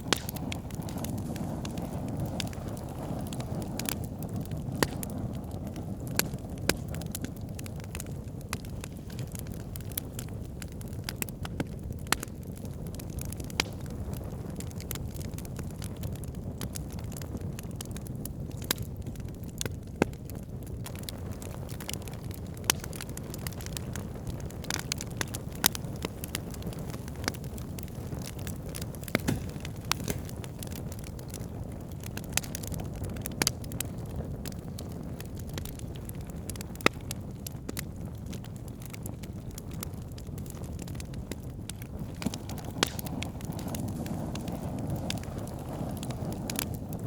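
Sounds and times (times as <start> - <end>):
campfire crackling: 0.0 - 47.0
sharp pops from fire: 0.0 - 47.0.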